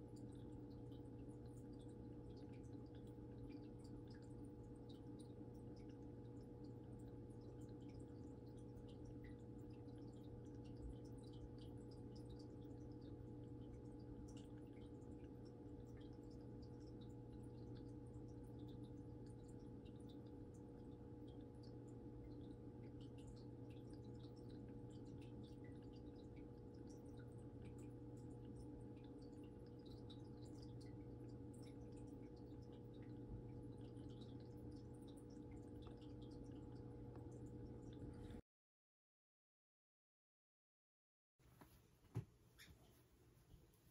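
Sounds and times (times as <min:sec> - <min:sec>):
aquarium filter humming: 0:00.0 - 0:38.4
water dripping and trickling: 0:00.0 - 0:38.4.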